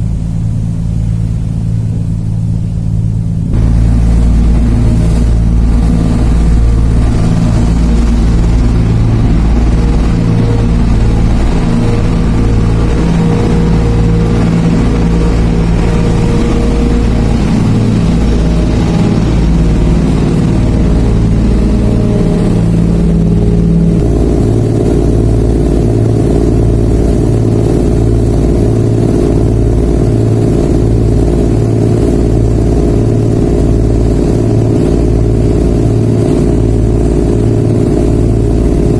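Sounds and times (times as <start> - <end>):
humming tone: 0.0 - 38.9
ship engines droning: 0.0 - 38.9.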